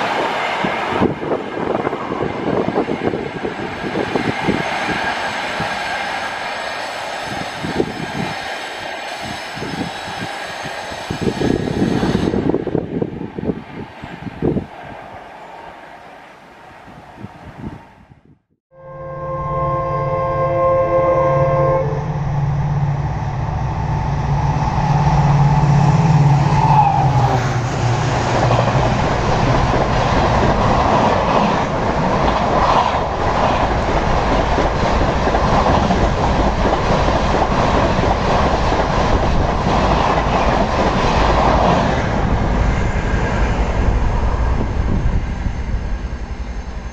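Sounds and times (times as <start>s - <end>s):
diesel locomotive passing: 0.0s - 18.2s, 18.8s - 46.9s.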